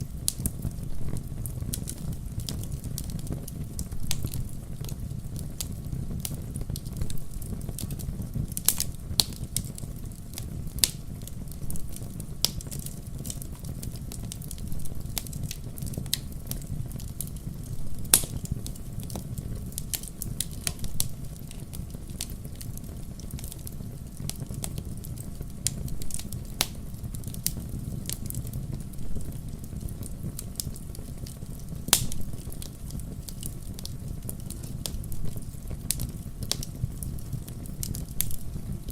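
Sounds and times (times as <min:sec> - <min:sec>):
fire flames rumbling: 0:00.0 - 0:38.9
logs crackling and popping: 0:00.0 - 0:38.9.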